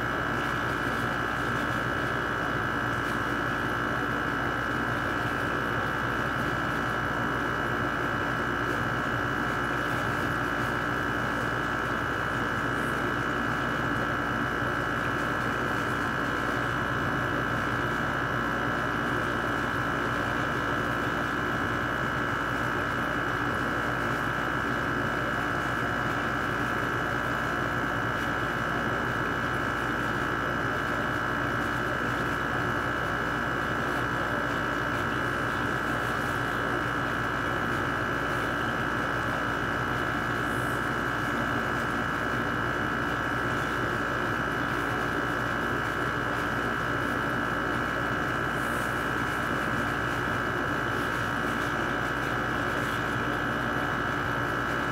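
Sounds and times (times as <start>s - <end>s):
air conditioner humming: 0.0s - 54.9s.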